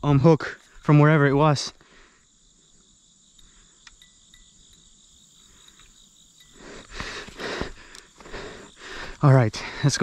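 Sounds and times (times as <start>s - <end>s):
insects chirping: 0.0s - 10.0s.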